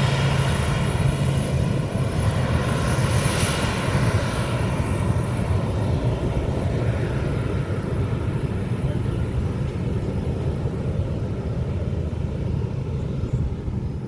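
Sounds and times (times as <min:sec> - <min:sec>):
aircraft engines running: 0:00.0 - 0:14.0.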